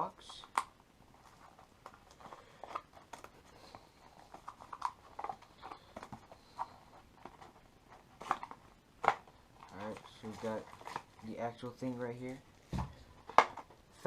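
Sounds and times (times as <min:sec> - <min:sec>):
packaging taps and rustles: 0:00.2 - 0:13.8.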